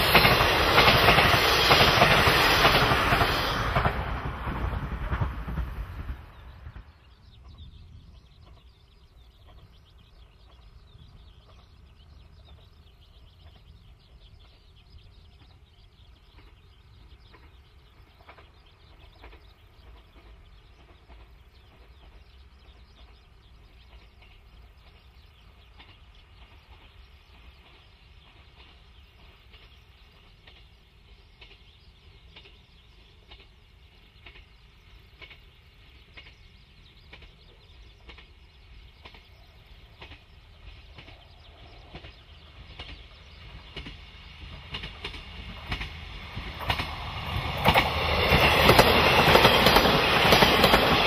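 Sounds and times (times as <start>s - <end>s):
train running: 0.0s - 51.0s
faint birds chirping: 5.9s - 51.0s.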